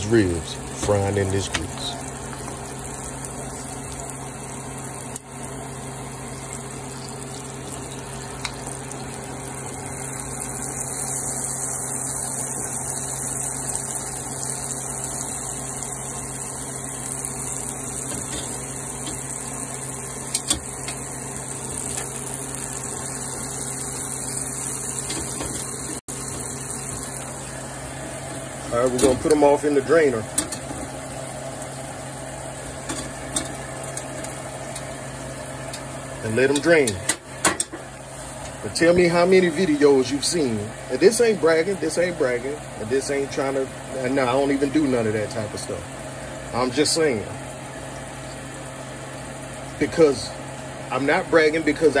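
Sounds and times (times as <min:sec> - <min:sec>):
ribs sizzling in hot oil: 0:00.0 - 0:52.0.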